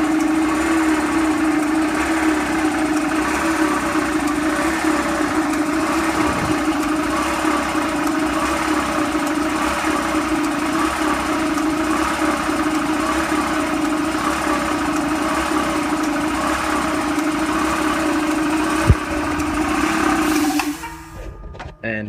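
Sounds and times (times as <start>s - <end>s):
air compressor running: 0.0s - 21.5s.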